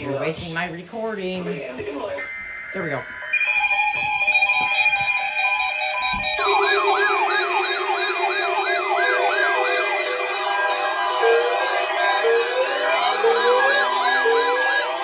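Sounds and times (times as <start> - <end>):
steady alarm tones: 1.1 - 15.0
fast siren-like warble: 1.7 - 15.0.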